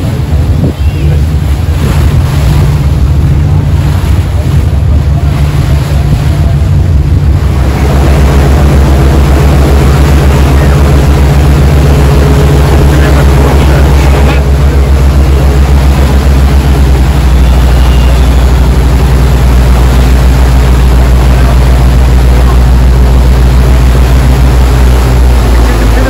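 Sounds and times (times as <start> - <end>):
boat engine droning: 0.0 - 26.0
propeller wash churning: 0.0 - 26.0.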